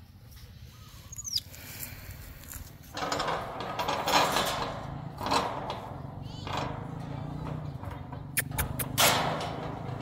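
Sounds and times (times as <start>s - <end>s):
rustling and rattling of fence: 1.7s - 10.0s.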